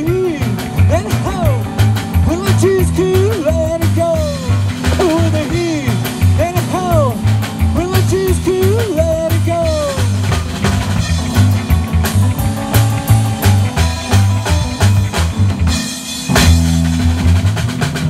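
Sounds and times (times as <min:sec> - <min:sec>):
drums: 0:00.0 - 0:18.0
lead guitar bent notes: 0:00.0 - 0:18.0
walking bass: 0:00.0 - 0:18.0.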